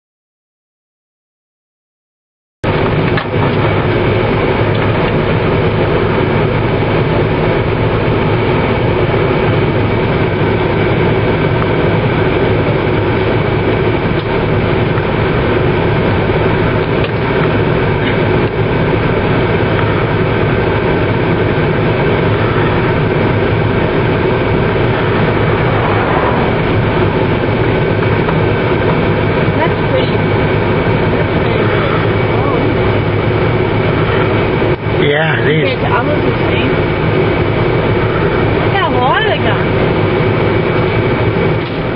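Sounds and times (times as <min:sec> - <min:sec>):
road and wind noise: 0:02.6 - 0:41.9
vehicle engine hum: 0:02.6 - 0:41.9.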